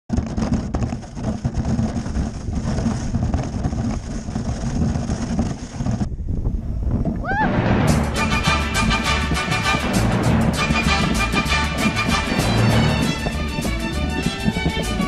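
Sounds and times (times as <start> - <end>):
sledge scraping over snow: 0.1 - 6.2, 7.0 - 15.0
sledge bumps: 0.1 - 15.0.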